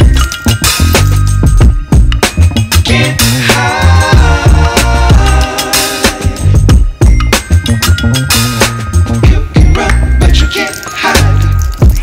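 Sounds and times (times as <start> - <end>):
song with drum beat and bass: 0.0 - 12.0.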